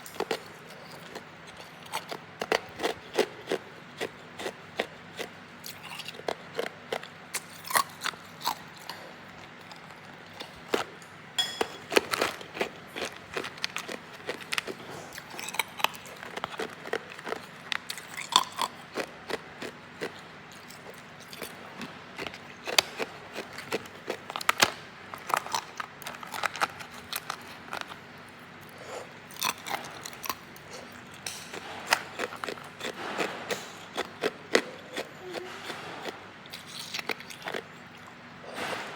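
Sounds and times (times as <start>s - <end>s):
ice crunching while chewed: 0.0s - 11.0s, 11.7s - 38.3s.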